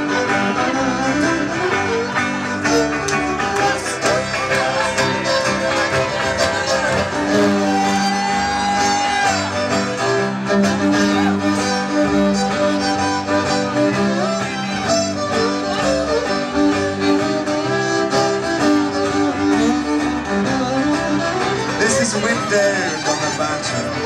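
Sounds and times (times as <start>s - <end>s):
fiddle playing bowed melody: 0.0s - 24.0s
guitar accompaniment: 0.0s - 24.0s.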